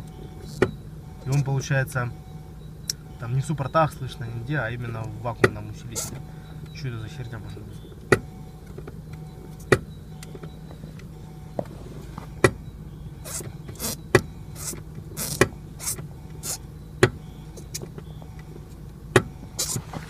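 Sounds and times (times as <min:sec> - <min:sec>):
brake booster knocking: 0:00.0 - 0:20.0
steady low hum: 0:00.0 - 0:20.0.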